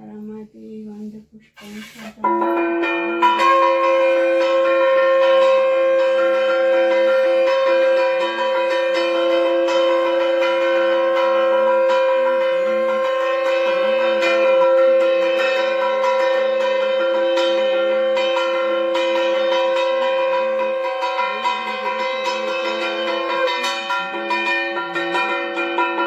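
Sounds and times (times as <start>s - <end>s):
two-note drone: 1.6s - 24.2s
bell-like strikes: 2.2s - 26.0s.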